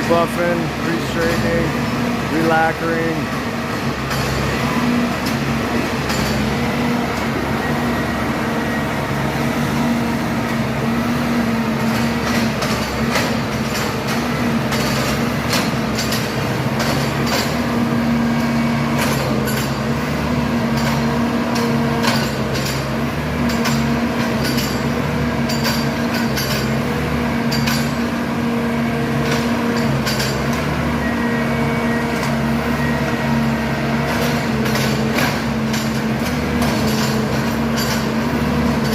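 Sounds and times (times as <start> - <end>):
machine engine humming: 0.0 - 38.9.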